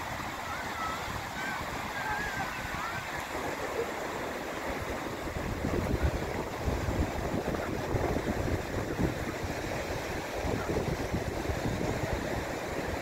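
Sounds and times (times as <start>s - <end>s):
surf washing up a beach: 0.0s - 13.0s
wind buffeting microphone: 0.0s - 13.0s.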